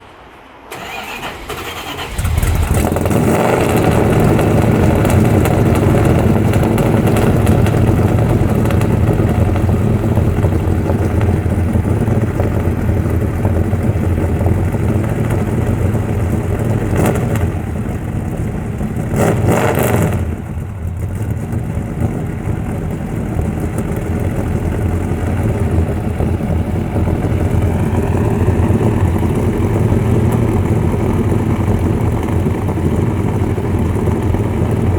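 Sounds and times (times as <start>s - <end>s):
car engine starting and idling: 0.0s - 34.9s.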